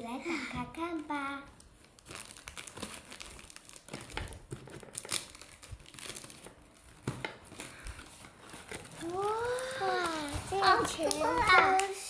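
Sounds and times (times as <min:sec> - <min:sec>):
cardboard flaps crinkling: 0:01.7 - 0:11.9
packing tape ripping: 0:01.8 - 0:11.9.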